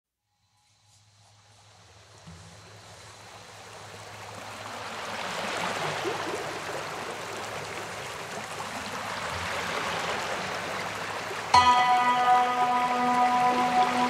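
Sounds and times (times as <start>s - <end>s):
waves breaking on sandy shore: 2.6s - 14.0s.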